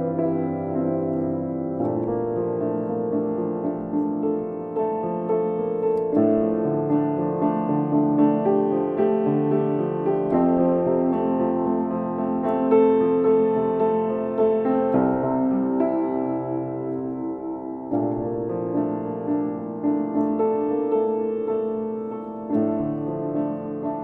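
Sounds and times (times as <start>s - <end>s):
slow solo piano music: 0.0s - 24.0s.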